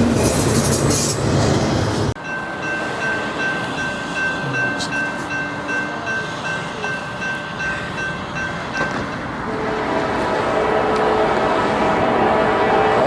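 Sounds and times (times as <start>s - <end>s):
freight train cars rolling: 0.0s - 13.0s.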